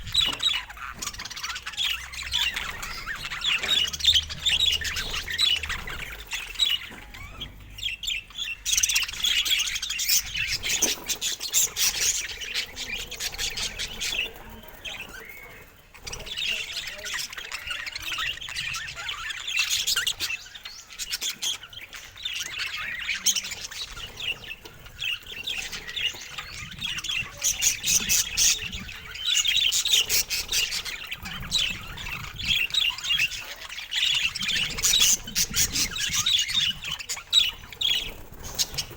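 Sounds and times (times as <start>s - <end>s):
budgerigar chirping and squawking: 0.0s - 14.4s, 16.0s - 38.9s.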